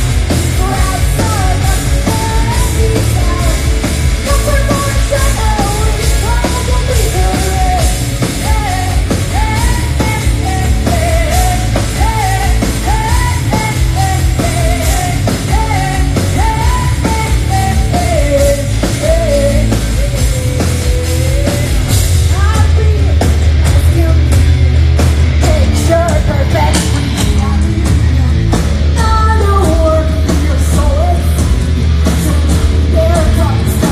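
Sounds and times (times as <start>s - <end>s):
woman singing: 0.0s - 24.6s, 25.4s - 33.9s
hard rock band playing: 0.0s - 33.9s.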